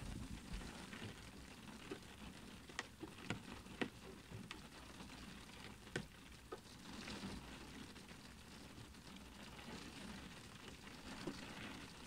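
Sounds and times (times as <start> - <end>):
rain hissing on window glass: 0.0 - 12.0.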